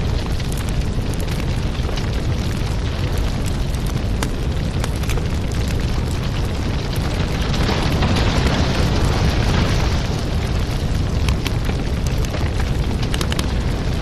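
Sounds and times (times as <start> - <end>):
fire rumbling and crackling: 0.0 - 14.0.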